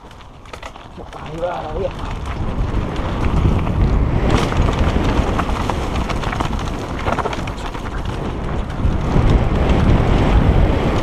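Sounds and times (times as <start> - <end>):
bike rattling over bumps: 0.0 - 11.0
tyre rumble on dirt: 0.0 - 11.0
wind rush: 0.9 - 11.0.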